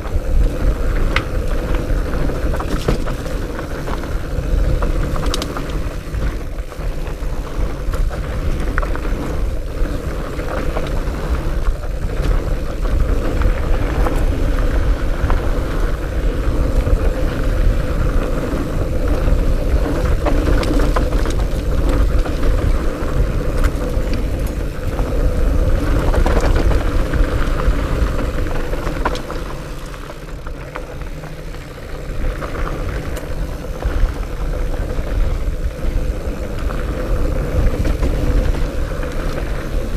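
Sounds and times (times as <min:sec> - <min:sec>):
bike clicks and rattles: 0:00.0 - 0:39.9
knobby tyres rumbling on dirt: 0:00.0 - 0:39.9
wind buffeting microphone: 0:00.0 - 0:39.9.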